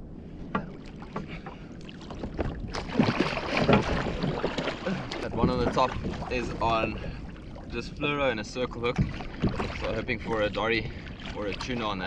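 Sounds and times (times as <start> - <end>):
water splashing against kayak: 0.4 - 12.0.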